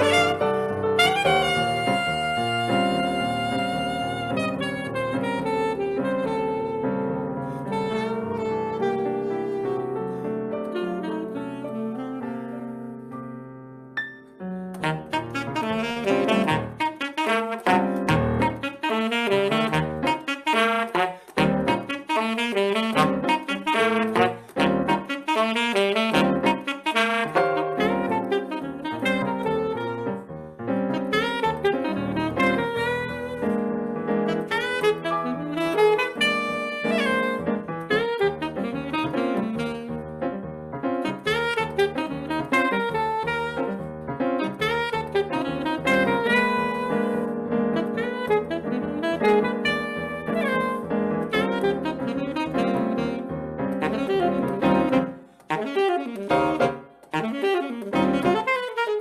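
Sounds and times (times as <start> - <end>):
piano accompaniment: 0.0 - 59.0
saxophone melody: 0.0 - 59.0.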